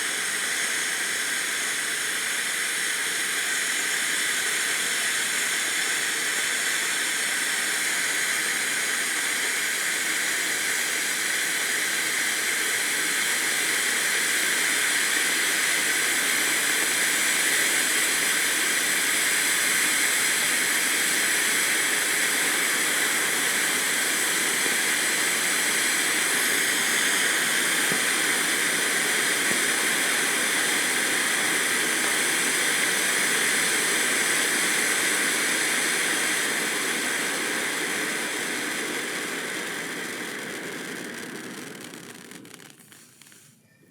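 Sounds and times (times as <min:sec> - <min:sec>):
firework fountain hissing sparks: 0:00.0 - 0:43.5.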